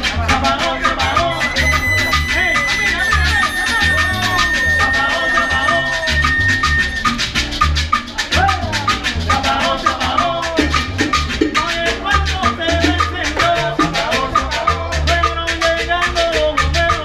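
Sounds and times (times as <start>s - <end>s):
salsa music: 0.0s - 17.0s.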